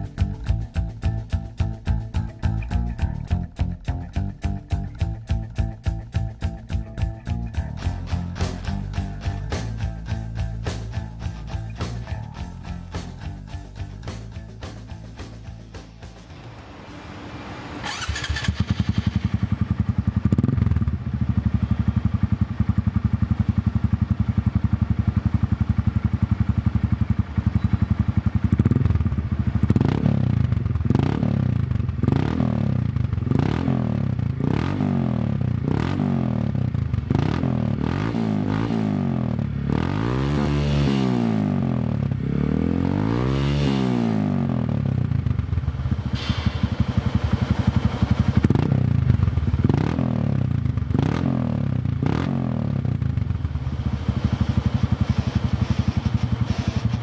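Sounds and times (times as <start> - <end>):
motorcycle engine idling: 0.0 - 16.4, 17.8 - 39.8, 44.3 - 57.0
engine revving: 0.0 - 21.0, 28.5 - 57.0.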